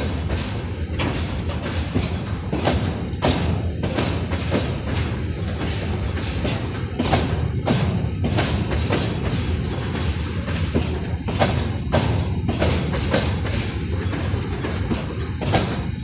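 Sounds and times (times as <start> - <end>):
freight train rumbling past: 0.0 - 16.0
wheel knocks over rail joints: 0.0 - 16.0.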